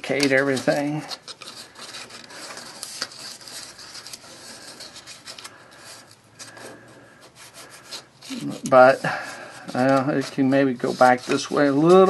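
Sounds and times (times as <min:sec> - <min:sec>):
cardboard rubbing and scraping: 0:00.0 - 0:12.0.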